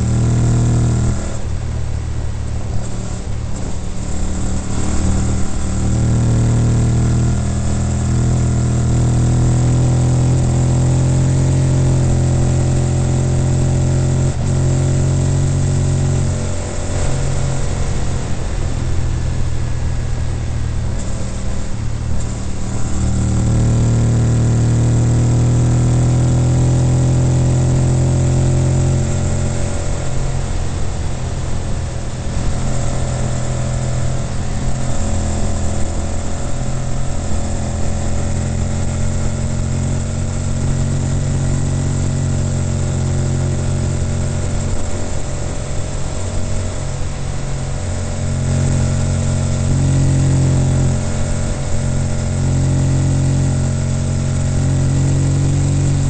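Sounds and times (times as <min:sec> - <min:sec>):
motorcycle engine riding: 0:00.0 - 0:56.0
road noise: 0:00.0 - 0:56.0.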